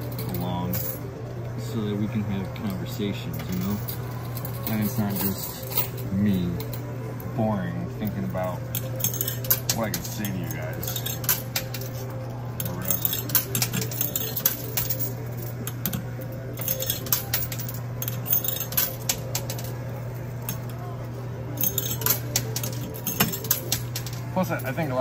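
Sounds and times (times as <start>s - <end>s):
coins clinking: 0.0s - 25.0s
steady low hum: 0.0s - 25.0s.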